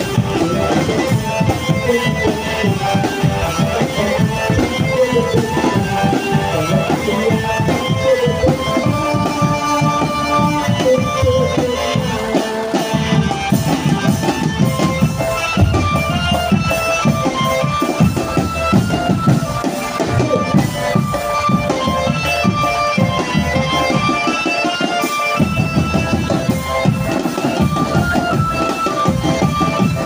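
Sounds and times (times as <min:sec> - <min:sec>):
sustained melody line: 0:00.0 - 0:30.0
tom drums: 0:00.0 - 0:30.0.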